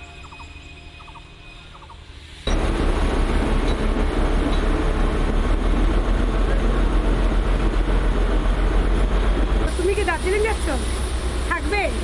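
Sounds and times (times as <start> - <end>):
train coaches rolling past: 0.0 - 12.0.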